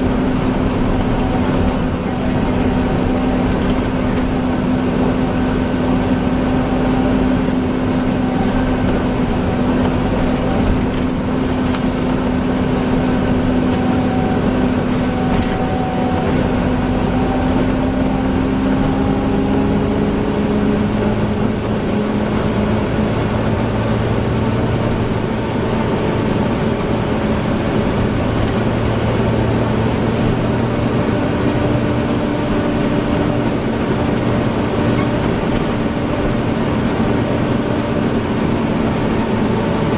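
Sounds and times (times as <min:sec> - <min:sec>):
bus engine drone: 0:00.0 - 0:39.9
bus whine: 0:00.0 - 0:39.9.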